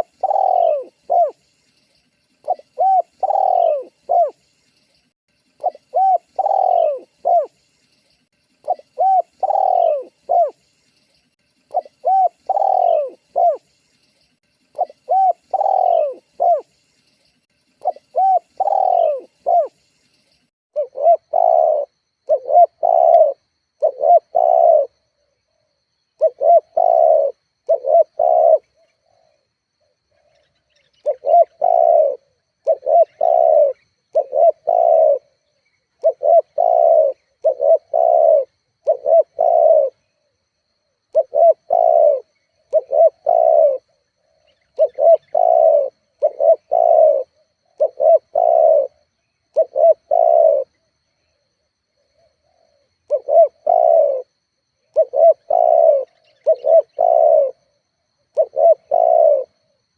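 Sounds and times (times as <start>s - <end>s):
dove cooing: 0.0s - 1.5s, 2.3s - 4.5s, 5.6s - 13.8s, 14.6s - 16.8s, 17.8s - 19.8s, 20.8s - 59.9s.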